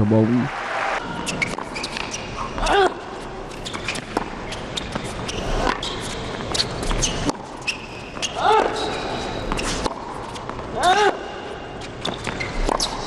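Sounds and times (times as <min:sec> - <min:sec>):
shoe squeak: 0:01.1 - 0:10.6, 0:11.8 - 0:13.0.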